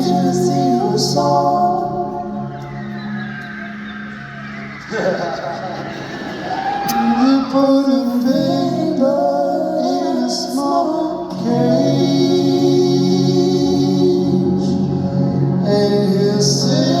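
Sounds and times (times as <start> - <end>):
sustained singing: 0.0 - 17.0.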